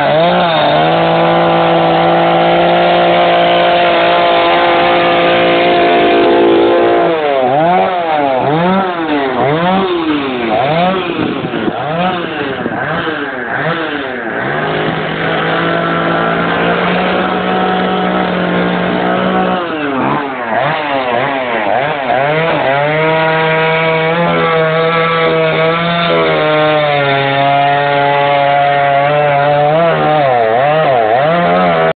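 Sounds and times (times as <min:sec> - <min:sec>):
chainsaw cutting log: 0:00.0 - 0:31.9.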